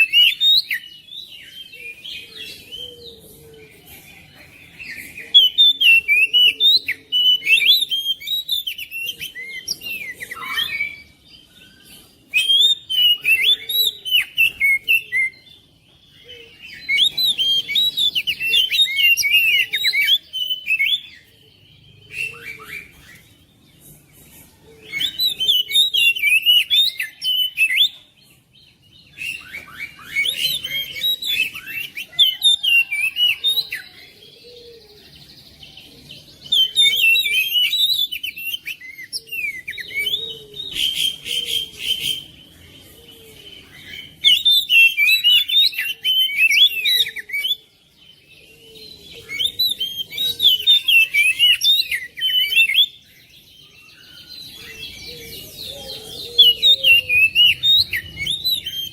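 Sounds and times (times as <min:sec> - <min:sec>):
bird singing whistles and chirps: 0:00.0 - 0:58.9.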